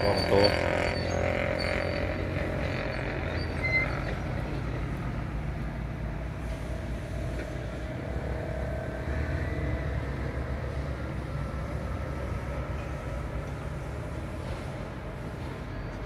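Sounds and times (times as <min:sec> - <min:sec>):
distant vehicle engine rumble: 0:00.0 - 0:16.0.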